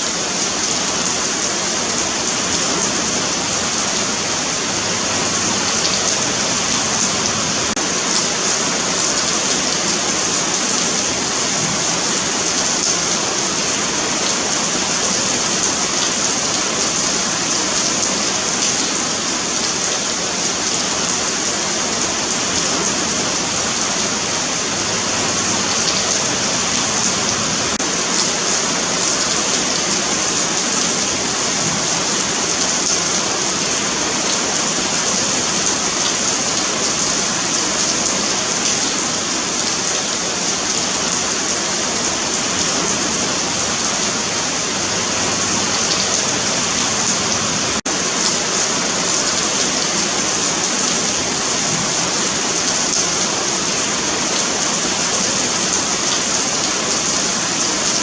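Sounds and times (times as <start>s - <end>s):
rain on a sidewalk: 0.0s - 58.0s.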